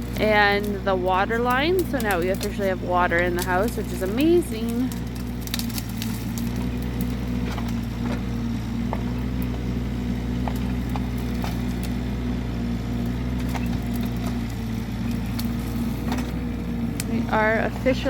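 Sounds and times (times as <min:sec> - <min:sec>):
digging machine engine running: 0:00.0 - 0:18.0.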